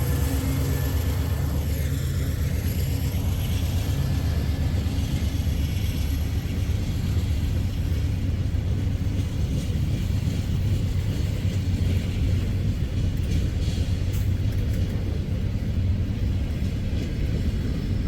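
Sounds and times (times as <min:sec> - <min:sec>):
freight train rumbling on rails: 0:00.0 - 0:18.0.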